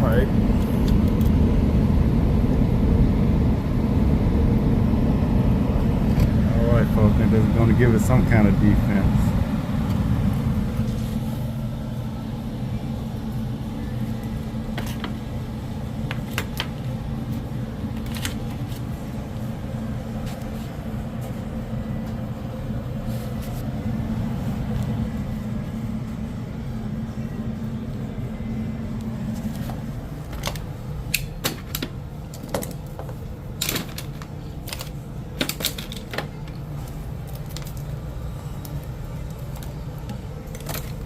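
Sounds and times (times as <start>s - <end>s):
air conditioner humming: 0.0s - 41.0s.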